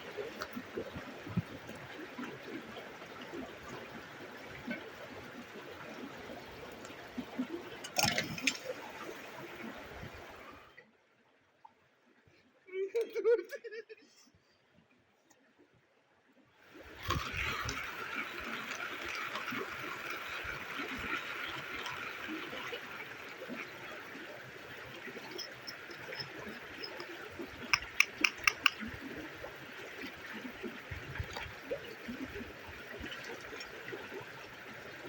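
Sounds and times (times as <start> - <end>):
running water: 0.0 - 10.8, 16.6 - 35.0.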